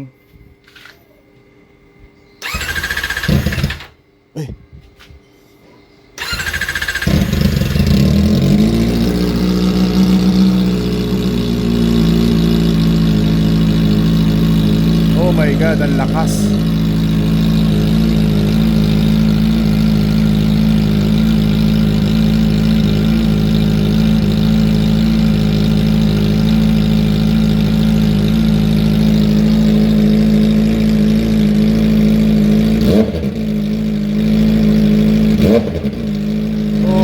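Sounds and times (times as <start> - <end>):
loud motorcycle engine running: 2.4 - 4.0, 6.2 - 37.0.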